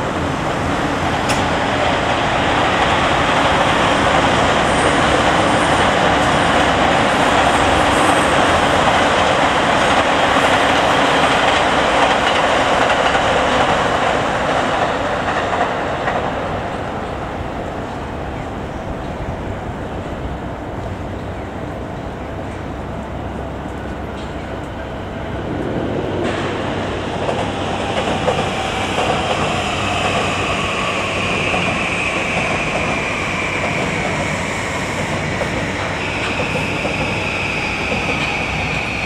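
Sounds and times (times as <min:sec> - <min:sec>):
electric train passing: 0:00.0 - 0:39.0.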